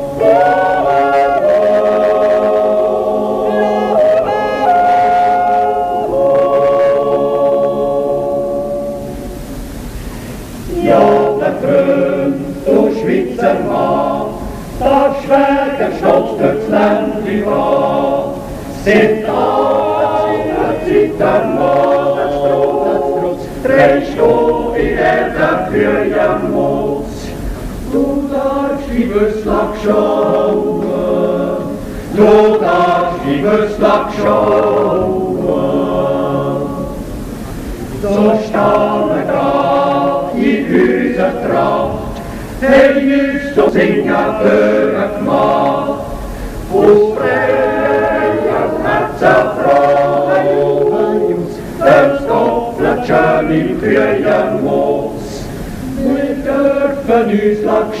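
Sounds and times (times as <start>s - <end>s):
male choir singing a capella: 0.0s - 9.4s, 10.5s - 58.0s.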